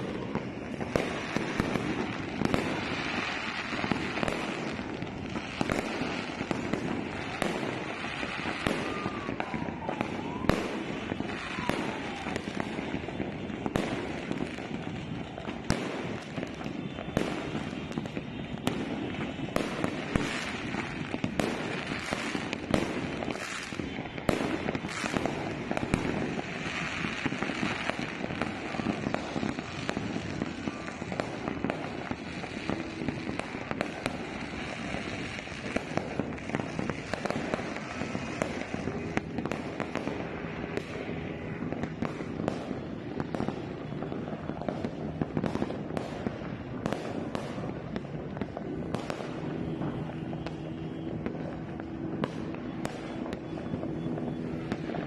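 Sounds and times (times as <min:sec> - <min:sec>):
firework bangs: 0:00.0 - 0:55.0
fireworks crackling and popping: 0:00.0 - 0:55.0.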